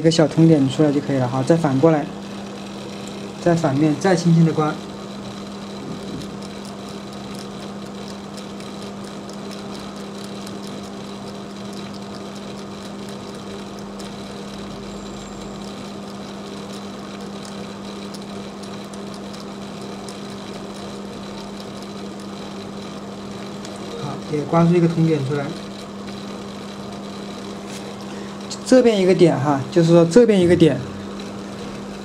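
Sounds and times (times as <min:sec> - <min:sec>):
steady machine hum: 0:00.0 - 0:32.0
blade scratching wire: 0:00.3 - 0:32.0.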